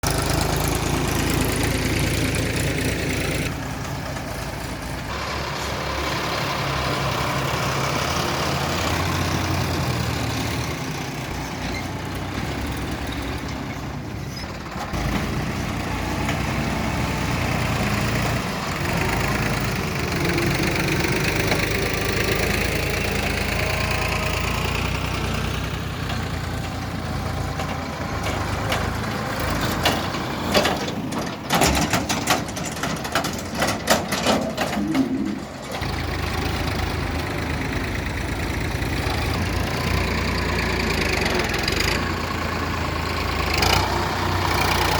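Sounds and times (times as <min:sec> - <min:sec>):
heavy diesel machinery running: 0:00.0 - 0:44.9.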